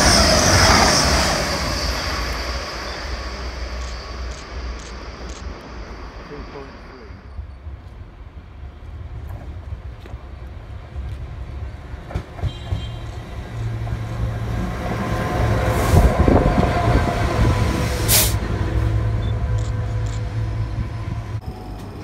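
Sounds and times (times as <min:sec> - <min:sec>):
diesel locomotive passing: 0:00.0 - 0:22.0.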